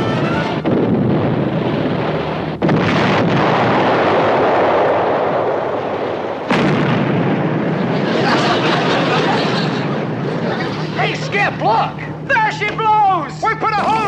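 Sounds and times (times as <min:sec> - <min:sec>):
depth charges exploding: 0:00.0 - 0:12.2.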